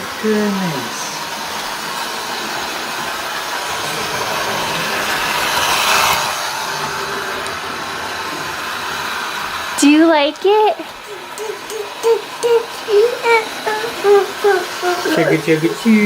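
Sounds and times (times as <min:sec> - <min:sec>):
model train whirring rattle: 0:00.0 - 0:16.0.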